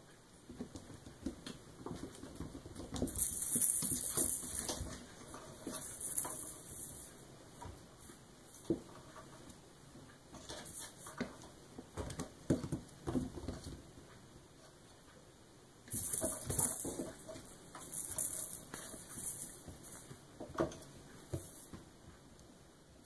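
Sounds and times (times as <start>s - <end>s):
scratchy rustling of kittens: 0.4s - 9.6s, 10.3s - 13.8s, 15.9s - 21.9s.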